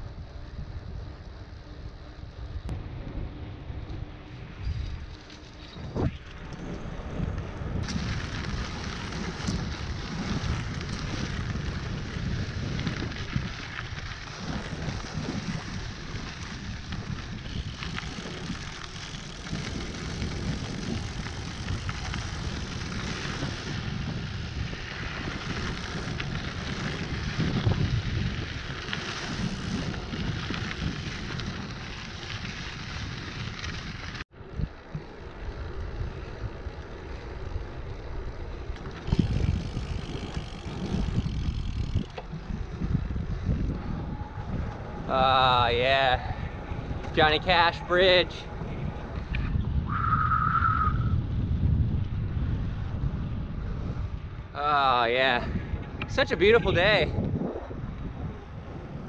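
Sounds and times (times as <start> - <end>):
bike rolling on pavement: 0.0 - 59.0
bike tyres rolling on dirt: 0.0 - 59.0
wind rushing over microphone: 0.0 - 59.0.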